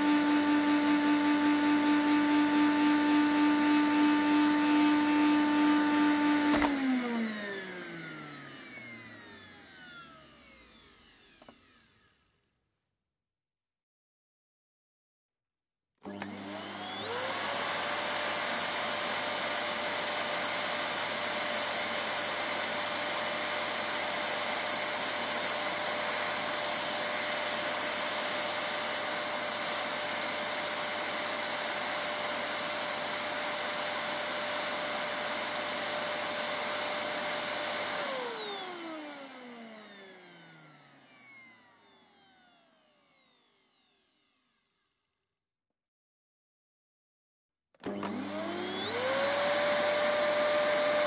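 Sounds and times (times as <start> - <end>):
vacuum cleaner running: 0.0 - 12.3, 16.0 - 44.4, 47.8 - 51.0.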